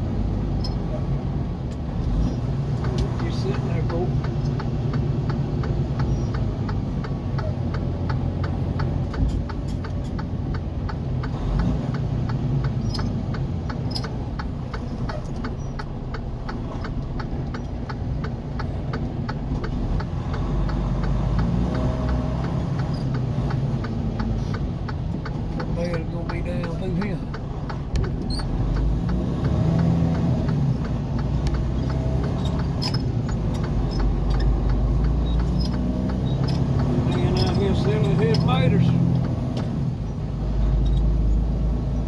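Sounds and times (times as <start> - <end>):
car engine idling: 0.0 - 42.0
turn signal ticking: 0.0 - 42.0.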